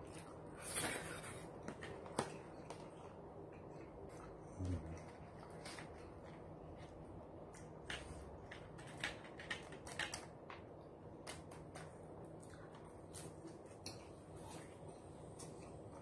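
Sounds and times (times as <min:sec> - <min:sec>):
person chewing food: 0:00.0 - 0:10.2, 0:11.2 - 0:16.0.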